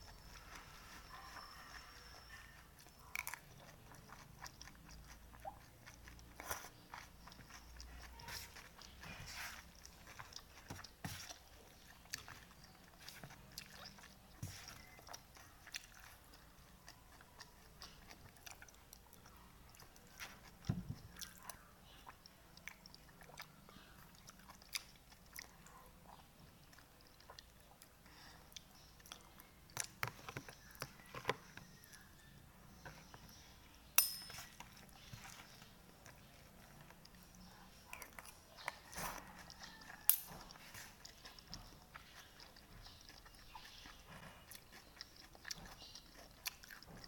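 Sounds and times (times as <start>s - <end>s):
person chewing noodles: 0.0s - 47.0s.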